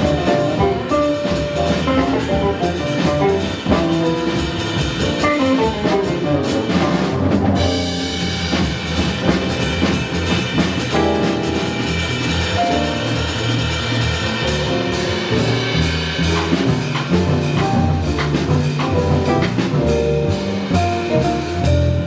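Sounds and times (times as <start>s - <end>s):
drum kit with cymbals: 0.0s - 22.0s
piano: 0.0s - 22.0s
walking bass: 0.0s - 22.0s.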